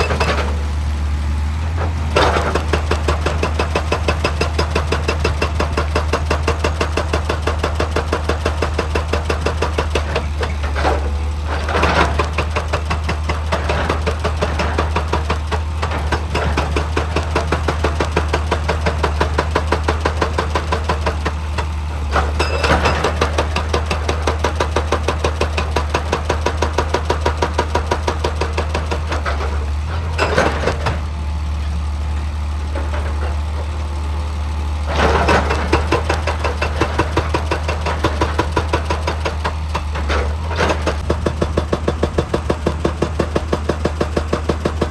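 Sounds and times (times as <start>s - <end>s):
excavator diesel engine clattering: 0.0s - 44.9s
loud bursts of engine noise: 0.0s - 44.9s.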